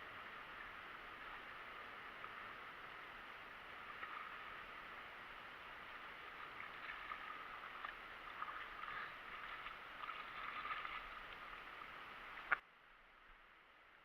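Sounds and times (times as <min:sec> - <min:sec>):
water sloshing and trickling: 0:01.1 - 0:12.6.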